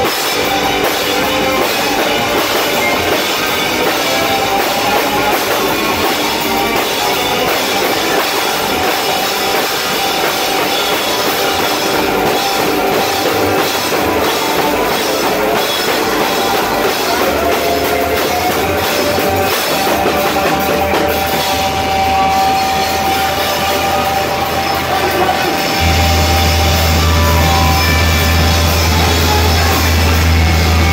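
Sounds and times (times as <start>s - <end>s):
cymbals crashing: 0.0s - 30.9s
live rock band playing: 0.0s - 30.9s
steady high note: 0.0s - 30.9s.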